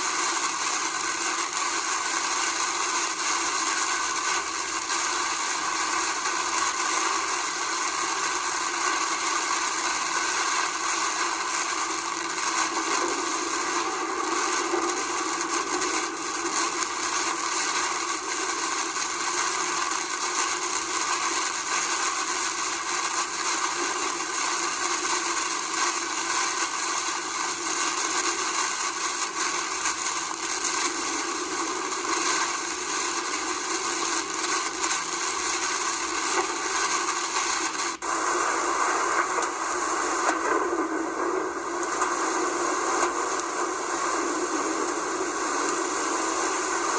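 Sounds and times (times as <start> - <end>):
heavy rain pouring: 8.1 - 46.9.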